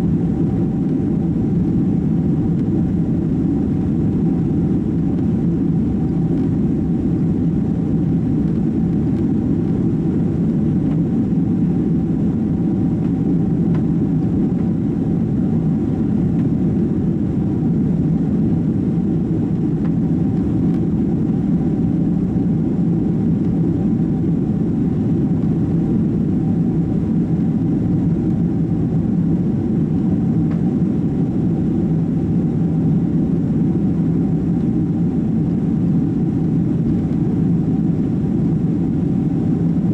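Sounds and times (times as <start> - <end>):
faint steady whine: 0.0 - 39.9
jet engine and airflow rumble: 0.0 - 39.9.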